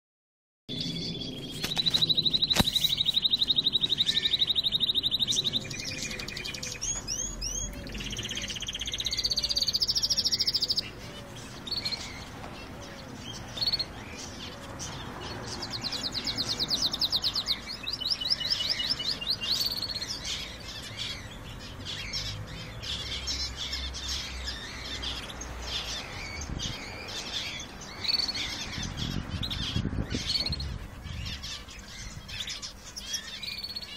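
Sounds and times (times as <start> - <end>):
canaries singing trills: 0.7 - 33.9.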